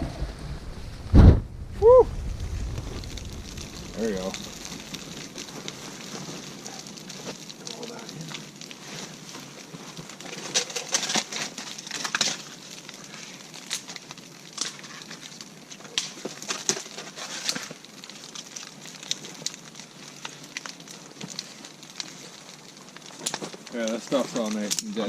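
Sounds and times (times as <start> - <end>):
campfire crackling and snapping: 0.0 - 25.0.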